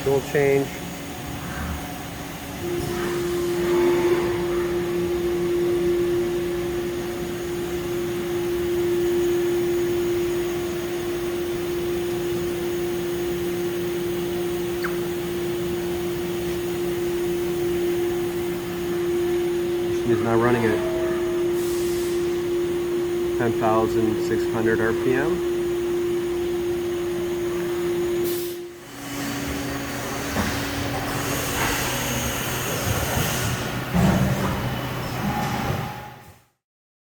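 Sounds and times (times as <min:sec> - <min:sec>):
machine spindle whine: 0:00.0 - 0:36.3.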